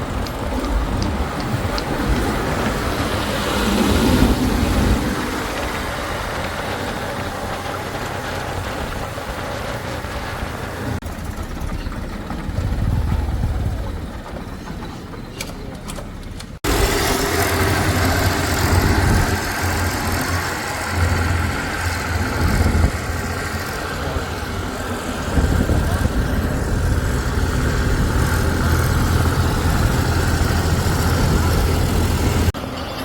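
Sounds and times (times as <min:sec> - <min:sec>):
diesel machinery rumbling: 0:00.0 - 0:33.0.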